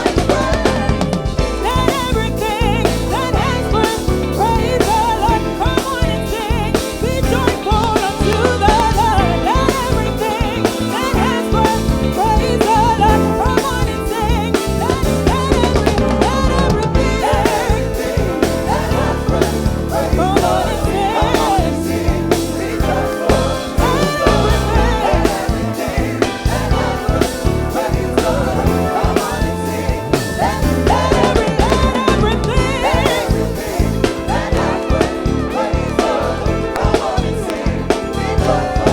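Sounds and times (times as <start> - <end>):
band playing gospel song: 0.0 - 38.9
drum kit beat: 0.0 - 38.9.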